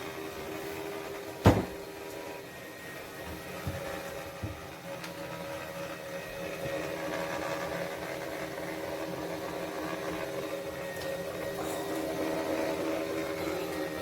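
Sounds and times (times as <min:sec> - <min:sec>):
spin mop motors whirring: 0:00.0 - 0:14.0.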